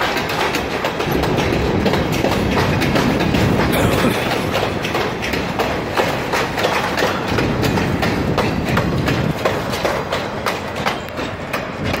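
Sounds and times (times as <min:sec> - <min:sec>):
train rumble: 0:00.0 - 0:12.0
train wheels clickety-clack: 0:00.0 - 0:12.0.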